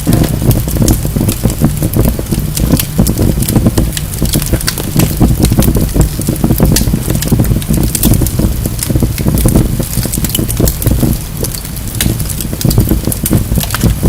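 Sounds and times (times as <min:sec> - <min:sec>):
logs crackling and popping: 0:00.0 - 0:14.0
low rumble of flames: 0:00.0 - 0:14.0.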